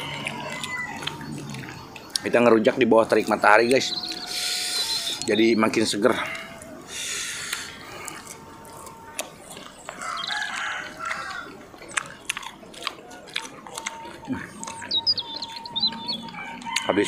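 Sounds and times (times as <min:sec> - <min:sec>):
crunchy chewing: 0:00.0 - 0:17.0.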